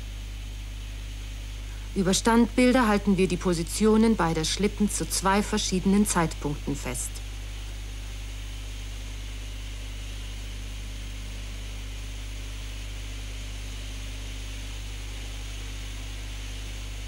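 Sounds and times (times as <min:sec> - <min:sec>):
low electrical hum: 0:00.0 - 0:17.0
steady hiss: 0:00.0 - 0:17.0.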